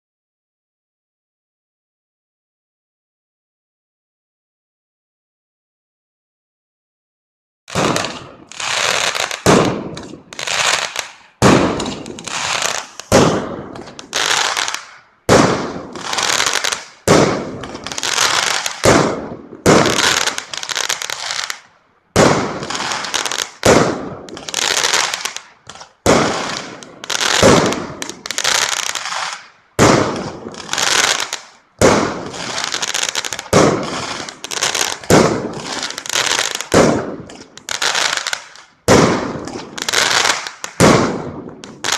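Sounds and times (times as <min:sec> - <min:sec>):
fireworks bangs and crackling: 0:07.7 - 0:41.9.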